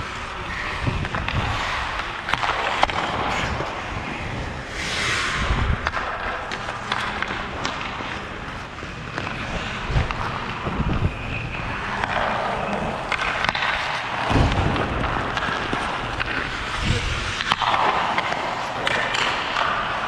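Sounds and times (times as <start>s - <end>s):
hissing skate stop scrape: 0.0s - 20.0s
hockey sticks and puck clacking: 0.0s - 20.0s
ice skate blades scraping: 0.0s - 20.0s.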